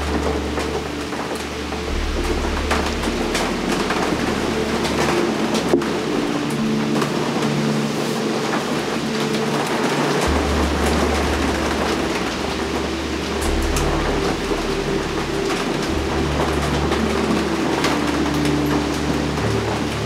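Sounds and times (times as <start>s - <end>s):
ambient drone music: 0.0s - 20.0s
rain hiss: 0.0s - 20.0s.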